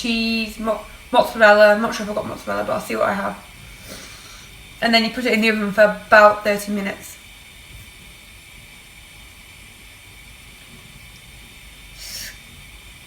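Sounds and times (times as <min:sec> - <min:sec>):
pan simmering hiss: 0:00.0 - 0:13.0.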